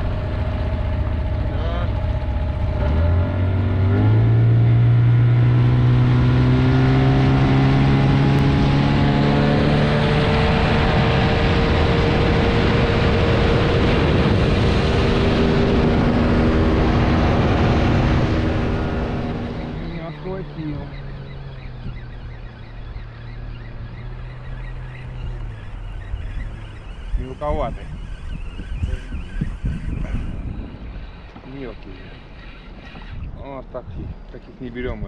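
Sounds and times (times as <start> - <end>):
outboard motor revving: 0.0 - 34.2.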